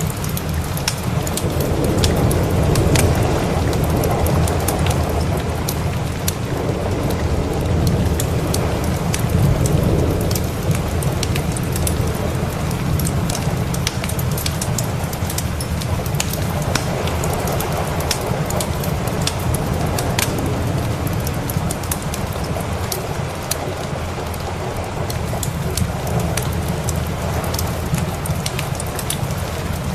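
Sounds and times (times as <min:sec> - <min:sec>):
steady rain: 0:00.0 - 0:29.9
thunder rumbling: 0:00.0 - 0:29.9
wood fire crackling and popping: 0:00.0 - 0:29.9.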